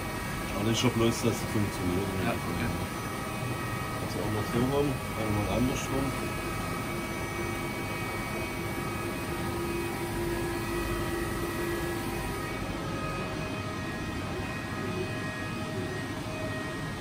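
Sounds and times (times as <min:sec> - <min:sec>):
lathe mechanical hum: 0:00.0 - 0:17.0
lathe spindle whining tones: 0:00.0 - 0:17.0.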